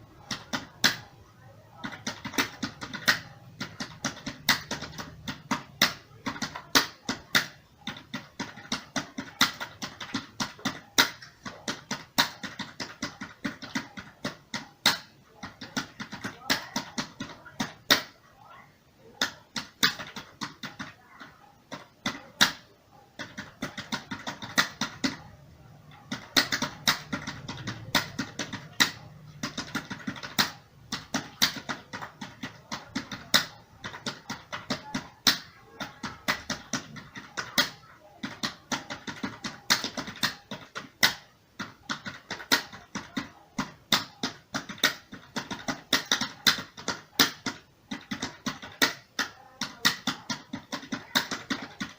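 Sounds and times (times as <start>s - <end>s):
computer keyboard typing: 0.0s - 51.9s.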